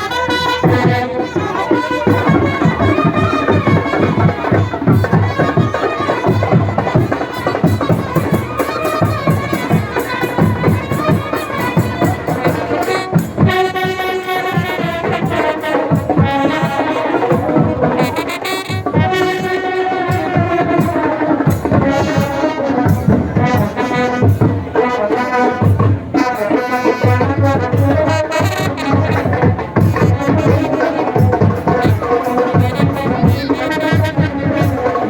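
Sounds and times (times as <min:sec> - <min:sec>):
brass band playing: 0:00.0 - 0:35.0
drums: 0:00.0 - 0:35.0.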